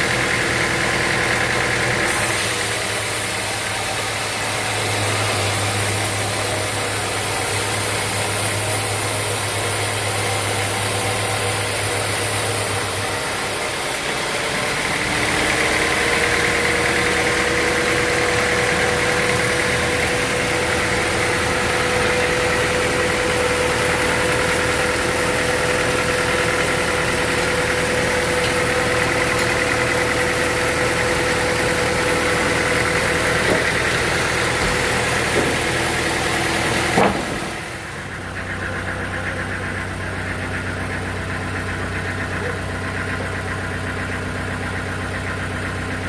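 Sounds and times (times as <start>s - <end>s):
sawmill machinery whine: 0.0s - 46.0s.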